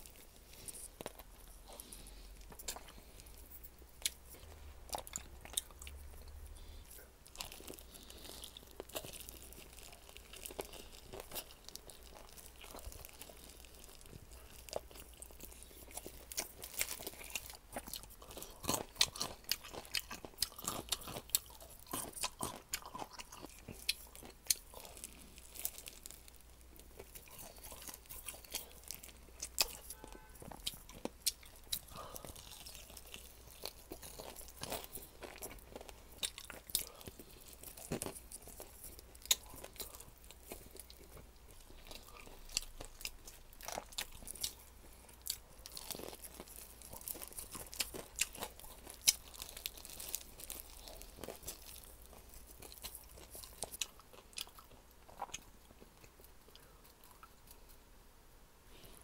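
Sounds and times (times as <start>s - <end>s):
chewing crispy chicken: 0.0s - 57.8s.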